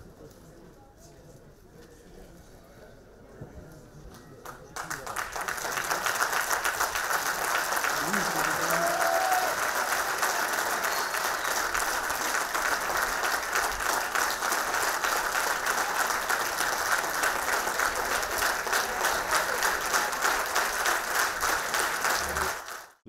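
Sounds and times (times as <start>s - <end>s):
audience applauding: 4.4s - 23.0s.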